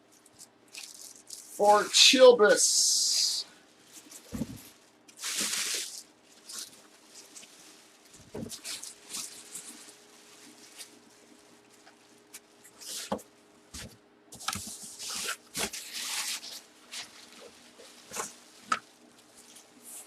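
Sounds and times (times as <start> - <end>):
faint steady hum: 0.0 - 20.0
plastic wrap crinkling: 0.1 - 2.4, 3.6 - 20.0.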